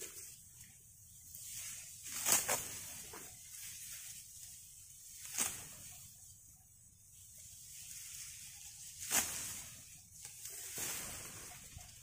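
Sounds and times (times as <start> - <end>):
sickle slicing rice stalks: 0.0 - 6.3, 7.1 - 12.0
dry stalks rustling: 0.0 - 12.0.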